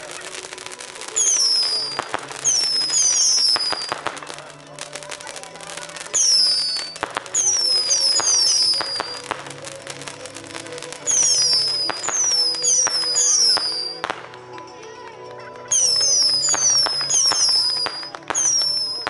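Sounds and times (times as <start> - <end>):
pyrotechnic fountains crackling: 0.0 - 19.0
quiet music: 0.0 - 19.0.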